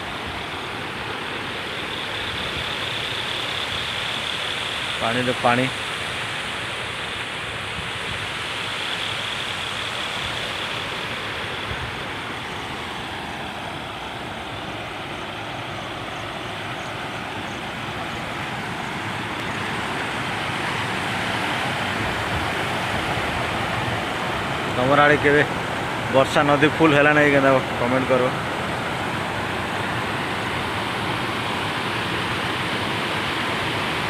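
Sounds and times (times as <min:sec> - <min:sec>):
fast-flowing river water rushing: 0:00.0 - 0:34.0.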